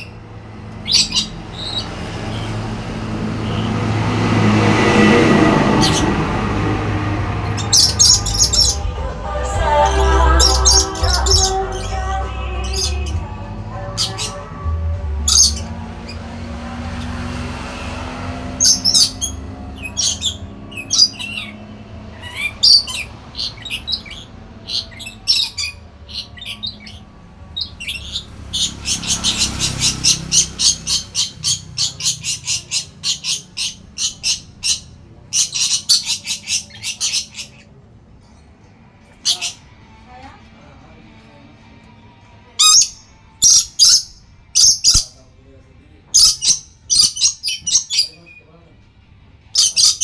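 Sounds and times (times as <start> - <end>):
parrot chirping and squawking: 0.0 - 3.7, 5.0 - 6.5, 7.3 - 13.2, 13.8 - 14.6, 15.2 - 37.8, 39.1 - 39.7, 42.6 - 45.1, 46.1 - 48.4, 49.5 - 50.0.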